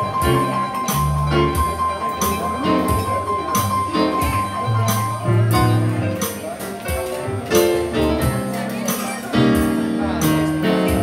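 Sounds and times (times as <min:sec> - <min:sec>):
piano chords: 0:00.0 - 0:11.0
upright bass: 0:00.0 - 0:11.0.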